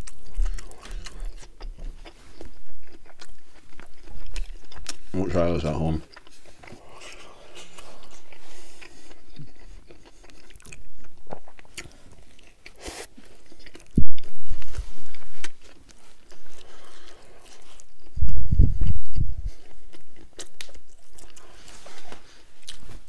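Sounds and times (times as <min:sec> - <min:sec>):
chewing and biting: 0:00.0 - 0:05.2, 0:06.0 - 0:23.0.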